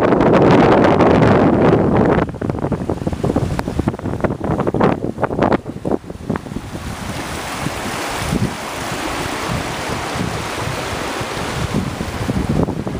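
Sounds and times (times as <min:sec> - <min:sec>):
wind buffeting microphone: 0:00.0 - 0:12.9
river running over rapids: 0:01.4 - 0:12.9.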